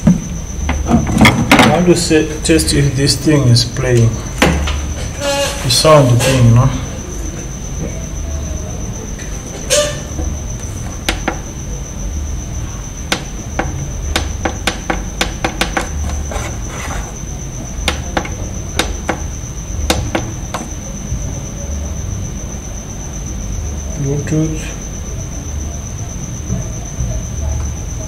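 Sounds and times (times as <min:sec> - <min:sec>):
high-pitched whine: 0:00.0 - 0:28.0.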